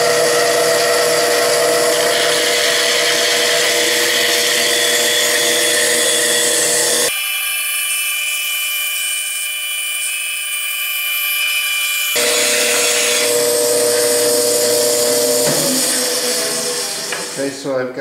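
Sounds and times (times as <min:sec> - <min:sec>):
bandsaw cutting wood: 0:00.0 - 0:17.6.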